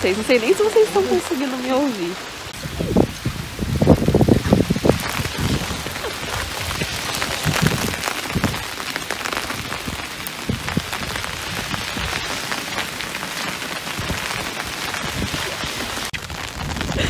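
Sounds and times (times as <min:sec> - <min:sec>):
hail pattering on asphalt and umbrellas: 0:00.0 - 0:17.0.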